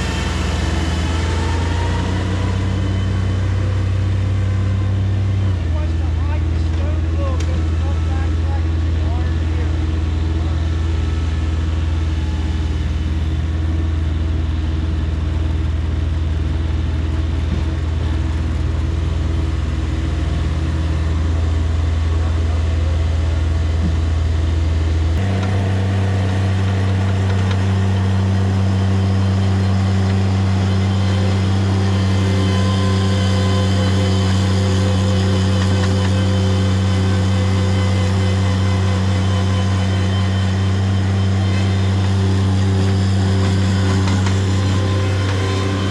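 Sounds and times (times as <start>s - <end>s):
excavator engine running: 0.0s - 45.9s.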